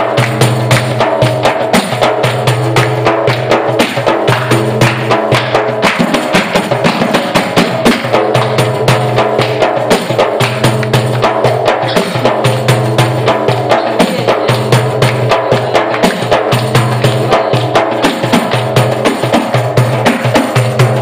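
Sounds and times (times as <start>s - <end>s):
hand drum with jingles: 0.0s - 21.0s.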